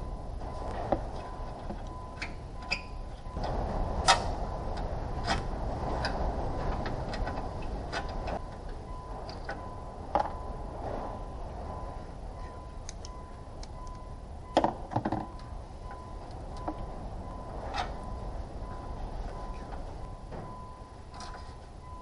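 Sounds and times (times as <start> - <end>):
faint steady tone: 0.0 - 22.0.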